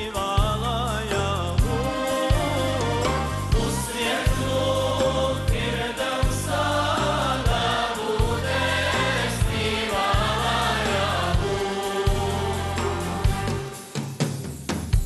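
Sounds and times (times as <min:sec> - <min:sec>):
held bass notes: 0:00.0 - 0:13.7
drum beat: 0:01.6 - 0:15.0
choir singing: 0:01.7 - 0:14.0.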